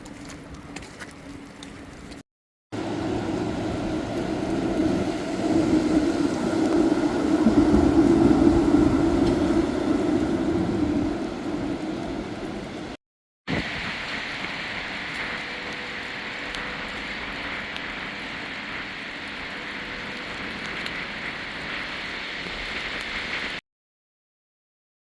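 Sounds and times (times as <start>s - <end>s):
hiss of wet snow storm: 2.8s - 23.6s.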